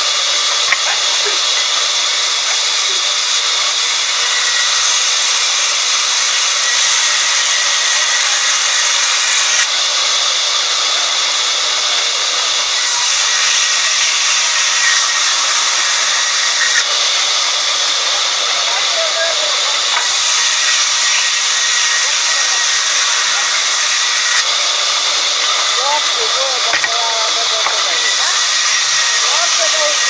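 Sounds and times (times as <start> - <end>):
band saw cutting wood: 0.0 - 30.0.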